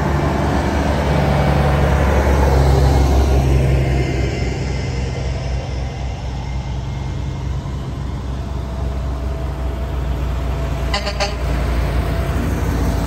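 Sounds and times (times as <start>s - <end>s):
truck engines rumbling: 0.0s - 13.0s.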